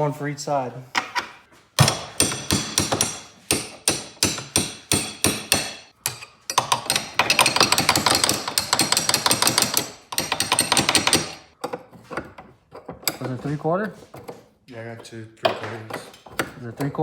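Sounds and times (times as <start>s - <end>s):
metal tools clanking: 1.0s - 17.0s.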